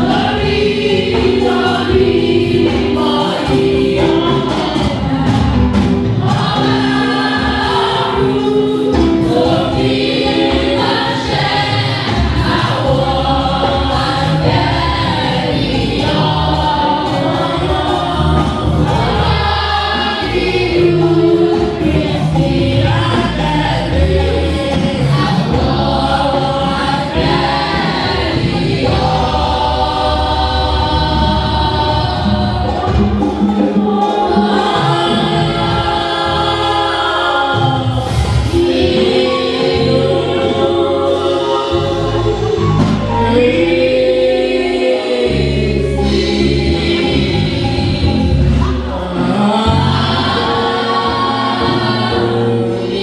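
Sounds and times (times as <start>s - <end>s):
choir singing gospel with band: 0.0s - 53.0s.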